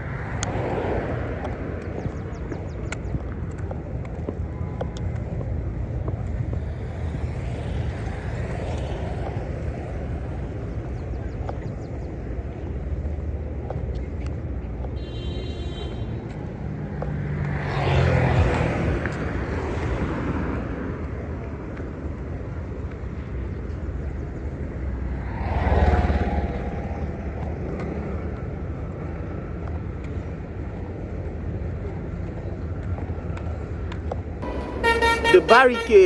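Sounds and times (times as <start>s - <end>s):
traffic rumble: 0.0s - 36.0s
vehicles passing close by: 0.0s - 36.0s.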